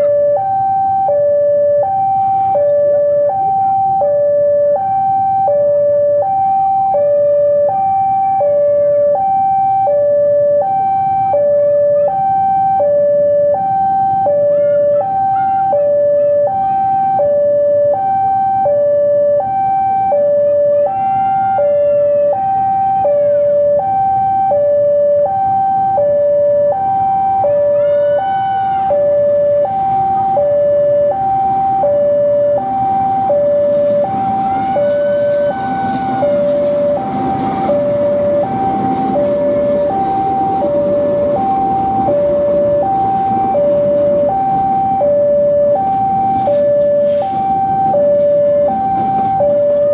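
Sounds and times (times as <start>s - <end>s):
diesel locomotive engine rumble: 0.0s - 49.9s
level crossing two-tone alarm: 0.0s - 49.9s.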